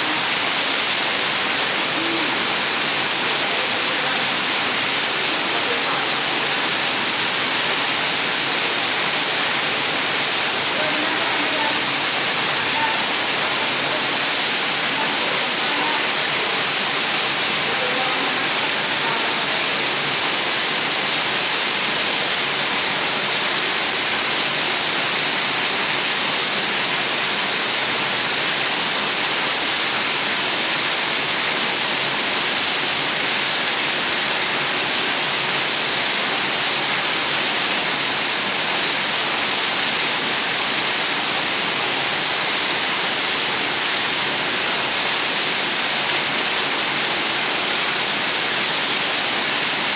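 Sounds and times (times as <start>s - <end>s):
rainwater gushing from drain spouts: 0.0s - 49.9s.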